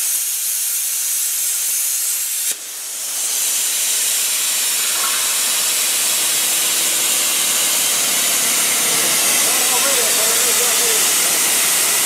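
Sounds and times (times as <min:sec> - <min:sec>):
plasma cutter hissing: 0:00.0 - 0:12.0.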